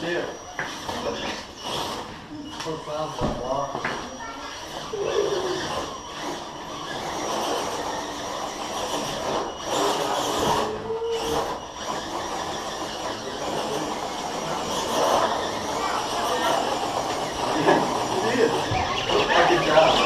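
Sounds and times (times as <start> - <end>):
engines droning: 0.0 - 20.0.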